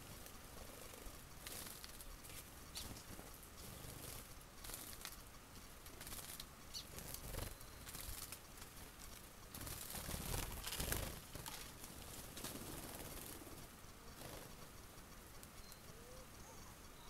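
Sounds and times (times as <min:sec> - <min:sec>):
irregular rustling: 0:00.0 - 0:15.6.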